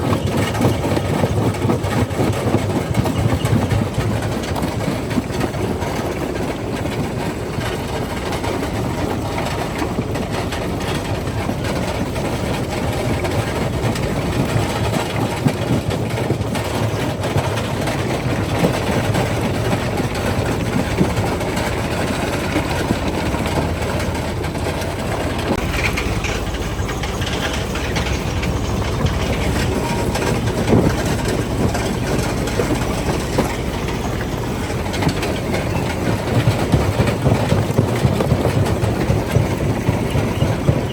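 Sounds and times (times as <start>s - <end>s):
jaw crusher rumble: 0.0s - 40.9s.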